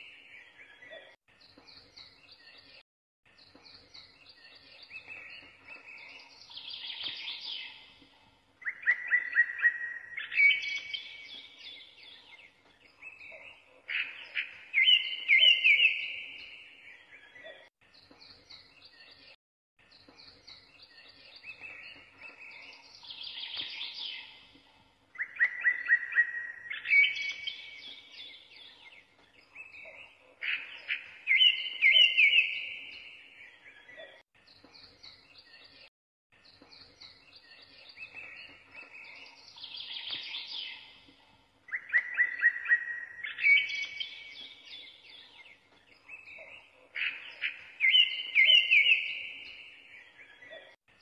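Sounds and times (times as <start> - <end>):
birds chirping and trilling: 0.0 - 51.0.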